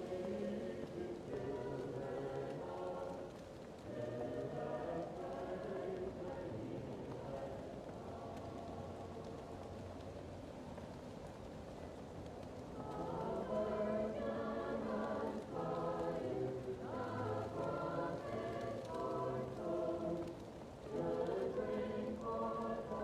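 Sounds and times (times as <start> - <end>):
muffled choir singing a hymn: 0.0 - 9.6, 12.7 - 23.0
fireplace crackling: 0.0 - 23.0.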